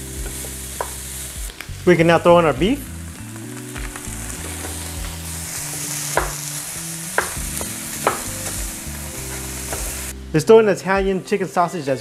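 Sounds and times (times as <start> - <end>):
meat sizzling in a frying pan: 0.0 - 10.2.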